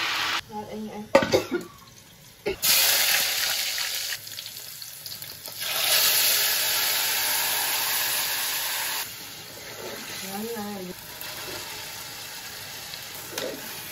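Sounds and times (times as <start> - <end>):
hot oil sizzling: 0.0 - 0.7, 1.6 - 13.9.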